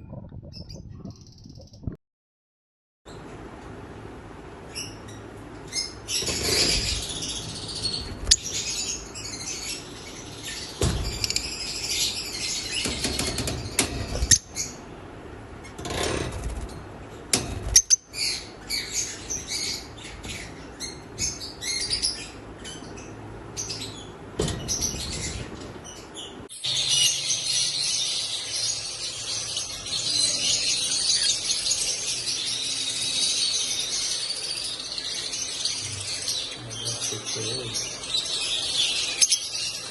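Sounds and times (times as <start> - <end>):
lovebirds chirping and chattering: 0.0 - 1.9, 4.6 - 15.8, 16.5 - 39.9.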